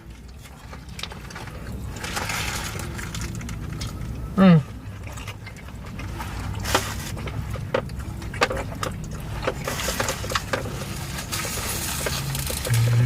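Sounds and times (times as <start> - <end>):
low steady hum: 0.0 - 13.0
person chewing with wet smacks: 0.0 - 13.0.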